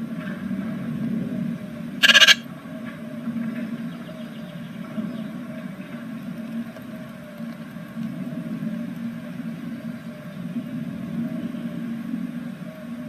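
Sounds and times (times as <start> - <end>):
low hum with hiss: 0.0 - 13.0.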